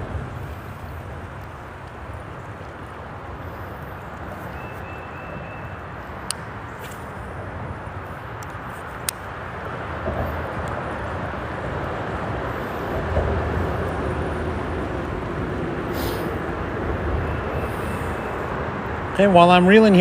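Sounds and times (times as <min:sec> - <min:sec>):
freeway traffic rushing: 0:00.0 - 0:20.0.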